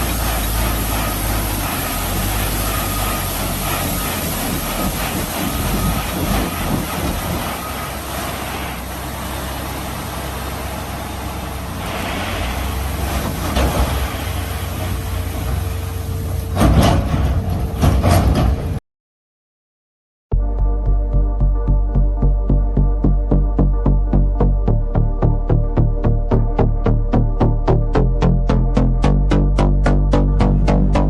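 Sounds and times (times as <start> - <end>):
heavy truck engine rumbling: 0.0 - 18.8, 21.4 - 31.0.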